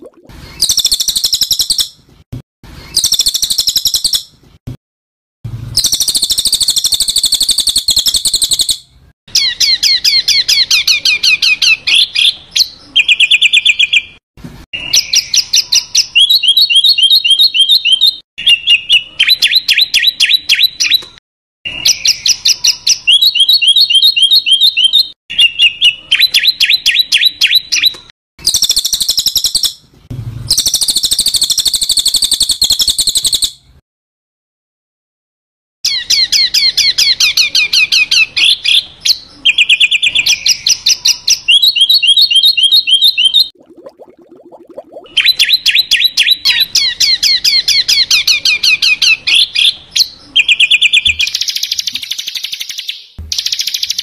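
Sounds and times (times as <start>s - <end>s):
songbird rasping calls and trills: 0.0s - 2.0s, 2.8s - 4.3s, 5.8s - 14.2s, 14.8s - 21.1s, 21.7s - 29.9s, 30.5s - 33.6s, 35.8s - 43.5s, 45.0s - 54.0s.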